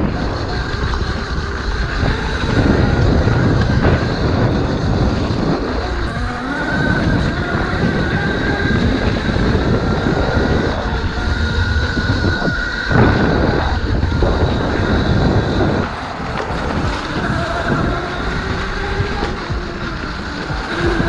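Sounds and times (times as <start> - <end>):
electric bike rumble and whine: 0.0 - 21.0.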